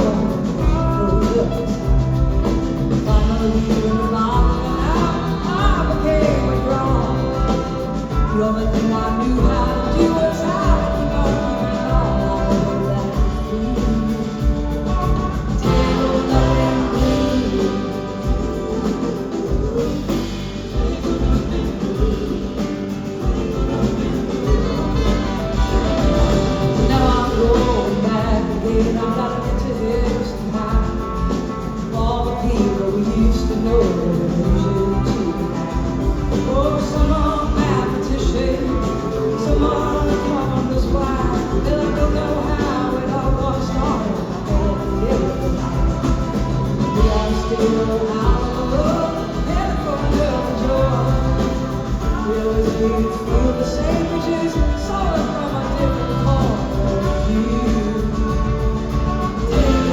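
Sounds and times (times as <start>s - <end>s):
live rock band instrumental: 0.0s - 59.9s.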